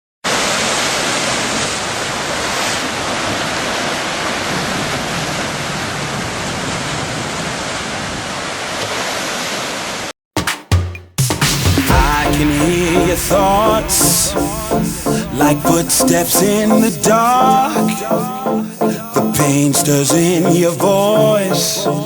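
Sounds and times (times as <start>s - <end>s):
sea water and surf rushing: 0.3s - 10.1s, 11.7s - 22.0s.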